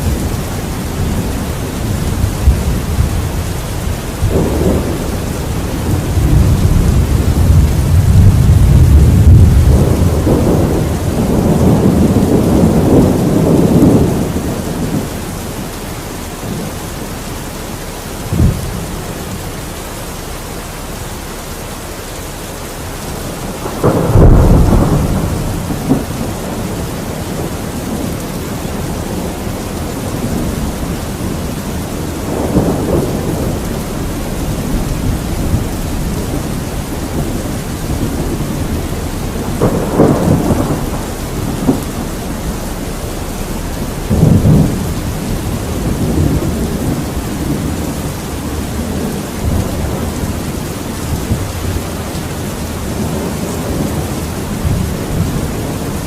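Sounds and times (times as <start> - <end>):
steady rain: 0.0 - 56.0
thunder rumbling and cracking: 0.0 - 56.0.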